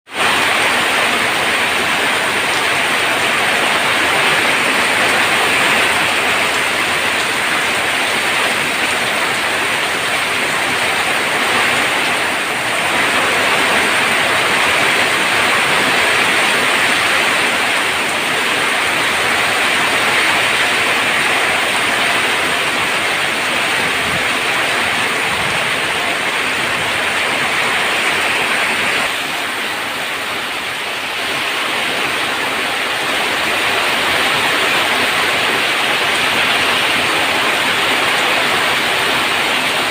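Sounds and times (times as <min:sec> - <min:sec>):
heavy rain on a tin roof: 0:00.1 - 0:39.9.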